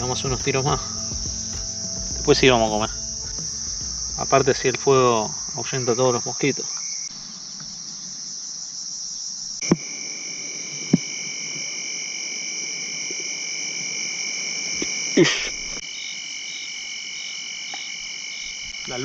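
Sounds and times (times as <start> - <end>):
high-pitched insect trilling: 0.0 - 19.0
lower insect trill: 0.0 - 19.0.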